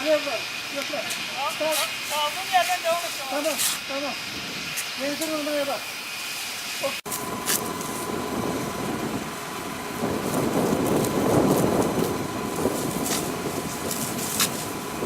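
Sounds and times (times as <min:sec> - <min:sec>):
hose spraying water: 0:00.0 - 0:15.0
pump engine running: 0:00.0 - 0:15.0
thin steady whine: 0:00.0 - 0:15.0.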